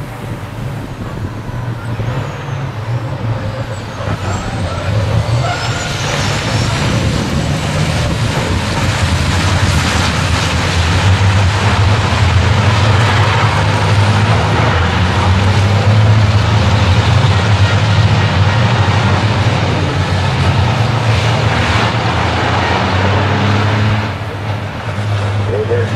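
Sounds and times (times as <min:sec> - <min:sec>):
heavy diesel engines accelerating: 0:00.0 - 0:25.9.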